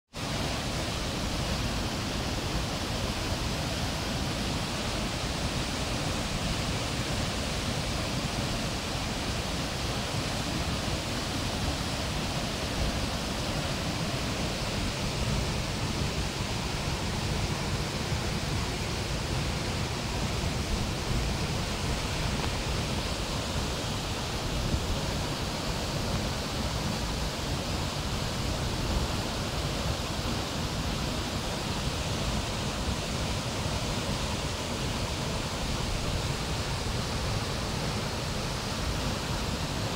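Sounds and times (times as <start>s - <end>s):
waterfall crashing: 0.2s - 39.9s.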